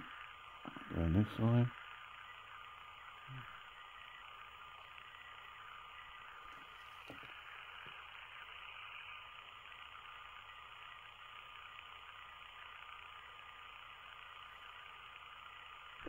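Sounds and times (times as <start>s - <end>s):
faint whine: 0.0s - 16.0s.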